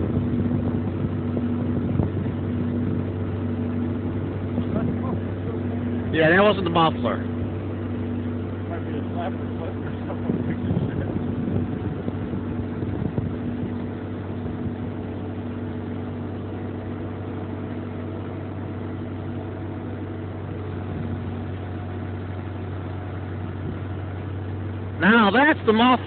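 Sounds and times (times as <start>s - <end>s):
engine humming steadily: 0.0s - 26.0s.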